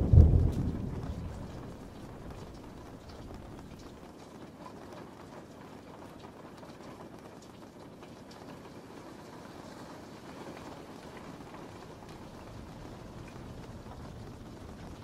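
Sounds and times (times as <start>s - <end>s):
raindrops ticking: 0.0s - 9.1s, 10.5s - 15.0s
steady rain: 0.0s - 15.0s.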